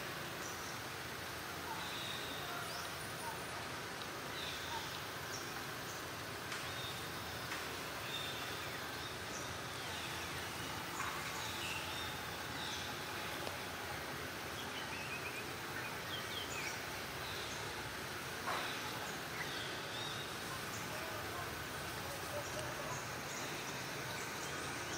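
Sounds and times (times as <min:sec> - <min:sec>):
background hiss: 0:00.0 - 0:24.9.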